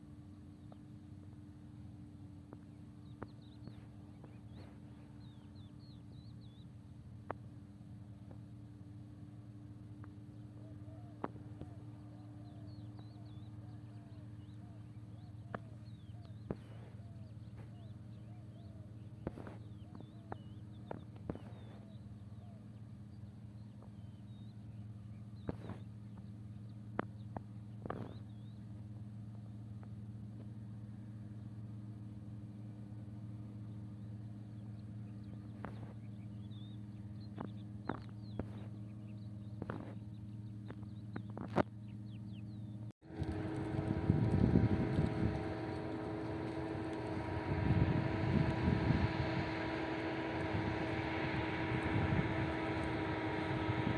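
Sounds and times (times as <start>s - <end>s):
faint birds chirping: 0.0s - 53.9s
steady low hum: 0.0s - 53.9s.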